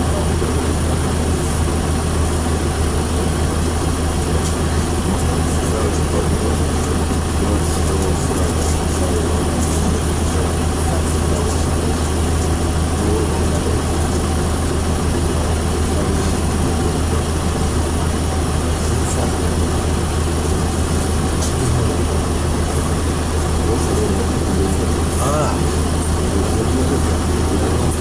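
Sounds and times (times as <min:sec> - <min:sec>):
bus engine idling: 0:00.0 - 0:28.0.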